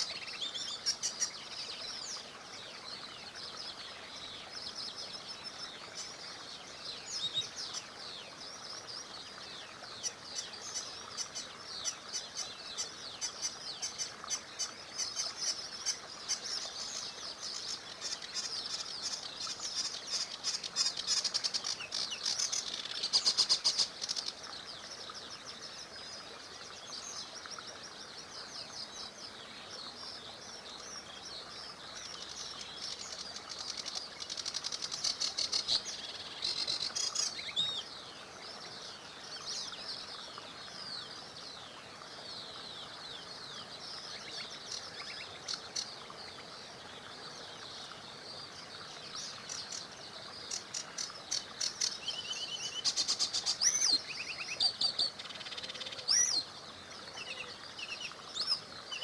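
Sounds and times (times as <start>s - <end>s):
small river rushing: 0.0s - 59.0s
songbirds chirping and trilling: 0.0s - 59.0s.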